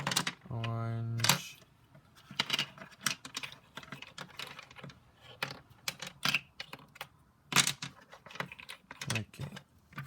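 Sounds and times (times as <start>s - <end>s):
plastic pieces clicking and clattering: 0.0s - 1.6s, 2.2s - 10.0s.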